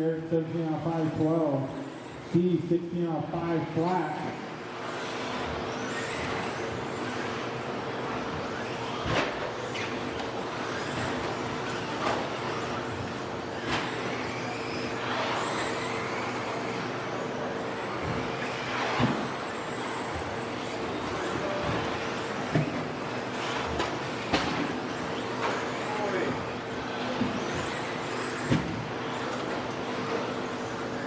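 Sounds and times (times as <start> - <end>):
electric motors whining: 0.0 - 31.0.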